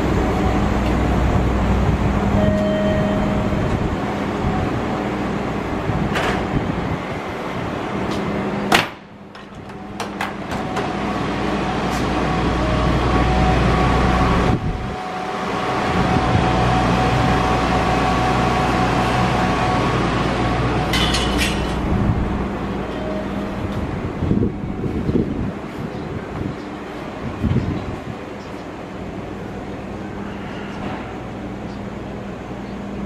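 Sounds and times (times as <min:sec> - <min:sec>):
electric train humming: 0:00.0 - 0:33.0.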